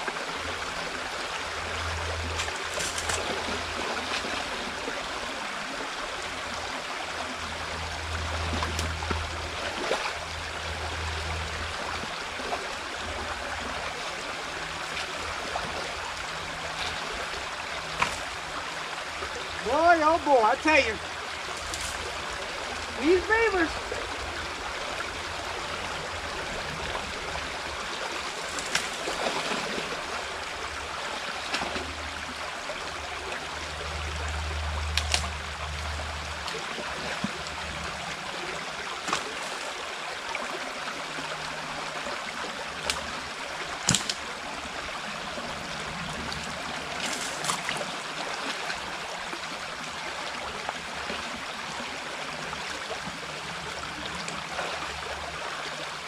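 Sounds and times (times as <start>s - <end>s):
water flowing through dam: 0.0s - 56.0s.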